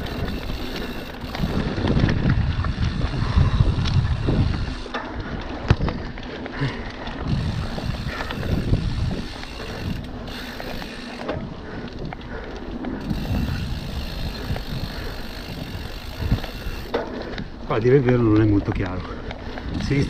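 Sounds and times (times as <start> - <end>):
bike knocking and rattling: 0.0 - 20.0
bike tyres rumbling over dirt: 0.0 - 20.0
wind buffeting microphone: 0.0 - 20.0.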